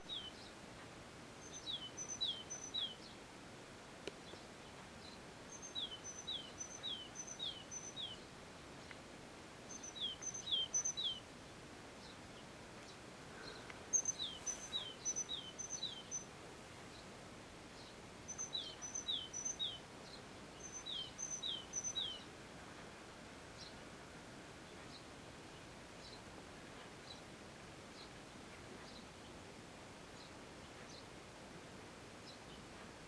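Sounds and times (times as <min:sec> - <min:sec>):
faint outdoor hiss: 0:00.0 - 0:33.0
songbird singing: 0:00.0 - 0:33.0.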